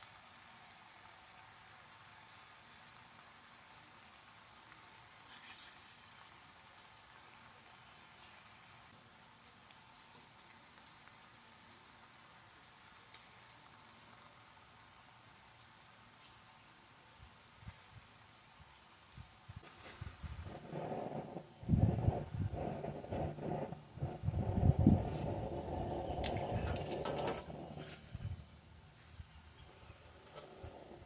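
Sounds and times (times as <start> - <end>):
food sizzling in a pan: 0.0 - 31.0
small pops and crackles: 0.0 - 31.0.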